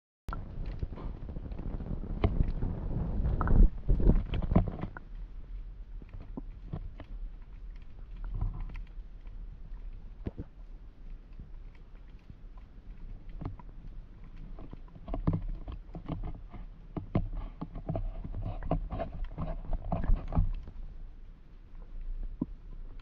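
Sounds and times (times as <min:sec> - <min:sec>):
underwater clicks and knocks: 0:00.3 - 0:20.9, 0:21.8 - 0:23.0
low underwater rumble: 0:00.3 - 0:23.0.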